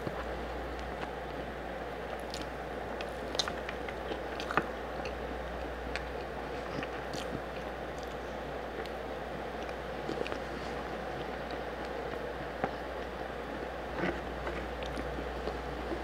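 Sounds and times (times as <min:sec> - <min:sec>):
biting and chewing with mouth clicks: 0:02.1 - 0:16.0.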